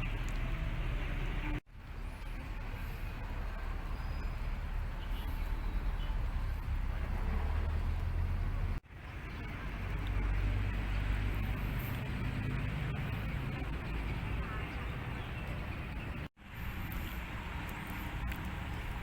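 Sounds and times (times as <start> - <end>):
low rumble of outdoor background: 0.0 - 19.0.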